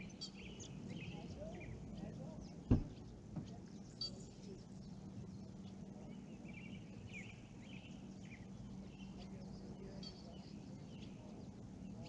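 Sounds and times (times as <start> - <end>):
low outdoor hum: 0.0 - 12.0
songbird chirps and warbling: 0.0 - 12.0.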